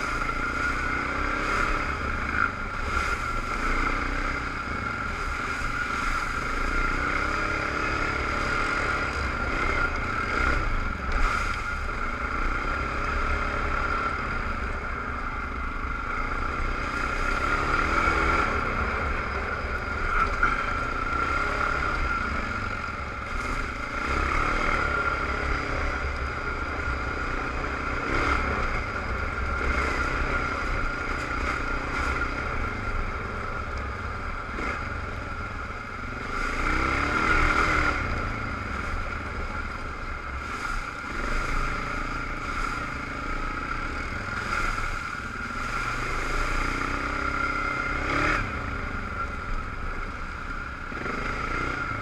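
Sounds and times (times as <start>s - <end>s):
atv engine revving: 0.0s - 52.0s
steady high whine: 0.0s - 52.0s.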